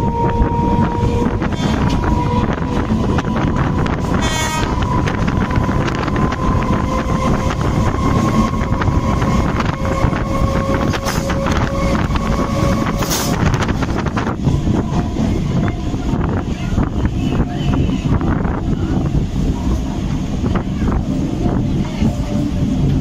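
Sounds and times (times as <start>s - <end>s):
train passing alongside: 0.0s - 23.0s
train rumble: 0.0s - 23.0s
wind buffeting microphone: 0.0s - 23.0s.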